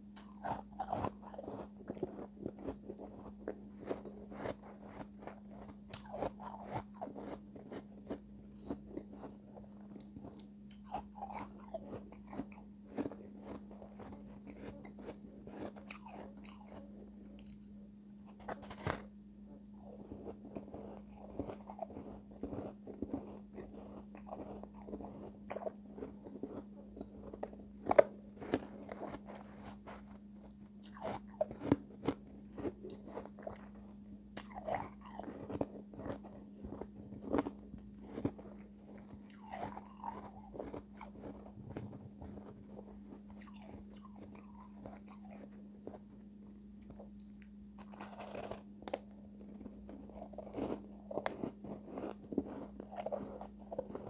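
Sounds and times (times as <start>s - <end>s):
ice being crunched and chewed: 0.1s - 19.1s, 19.8s - 46.2s, 46.8s - 54.0s.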